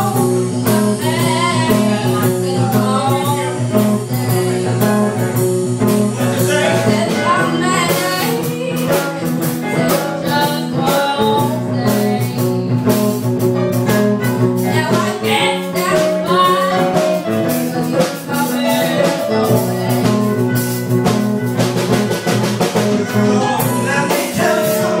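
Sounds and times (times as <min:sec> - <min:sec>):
person singing: 0:00.0 - 0:13.0, 0:14.6 - 0:20.6, 0:22.9 - 0:25.0
live blues band: 0:00.0 - 0:25.0.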